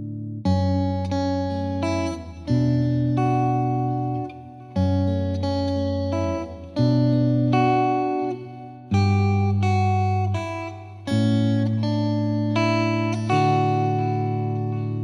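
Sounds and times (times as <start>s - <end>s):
slow instrumental guitar music: 0.0s - 15.0s.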